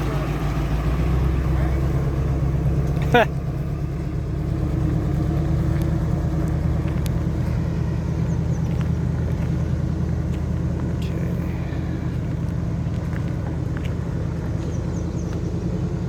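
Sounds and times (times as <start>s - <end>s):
road rumble: 0.0s - 16.0s
truck engine drone: 0.0s - 16.0s.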